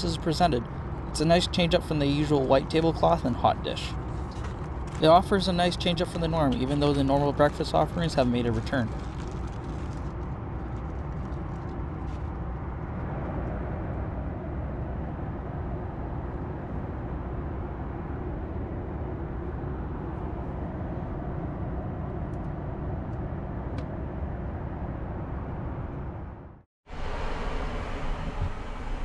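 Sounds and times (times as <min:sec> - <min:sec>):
aircraft cabin rumble: 0:00.0 - 0:29.0.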